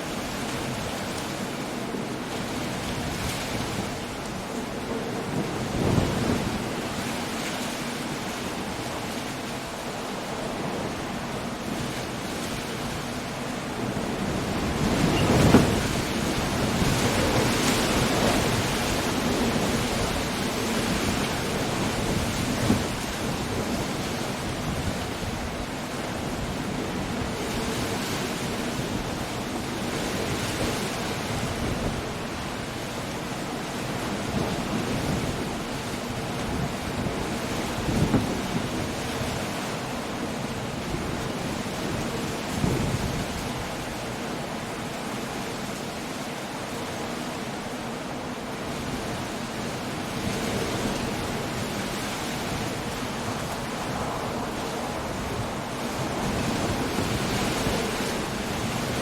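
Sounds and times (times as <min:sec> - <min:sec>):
rain: 0:00.0 - 0:59.0
surf: 0:00.0 - 0:59.0
wave crashing: 0:00.0 - 0:59.0
wind: 0:00.0 - 0:59.0.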